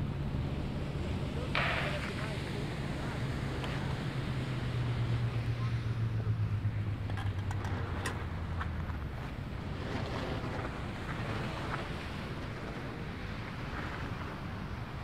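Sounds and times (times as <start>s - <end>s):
low engine hum: 0.0s - 15.0s
wind rushing over microphone: 0.0s - 15.0s.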